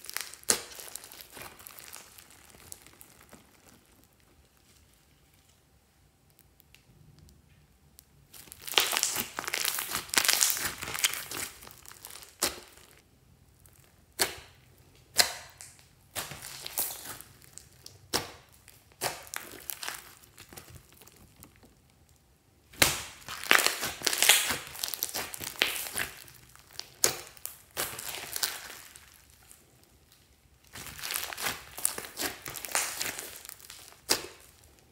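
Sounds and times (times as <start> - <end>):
slime with beads crackling: 0.0 - 34.9.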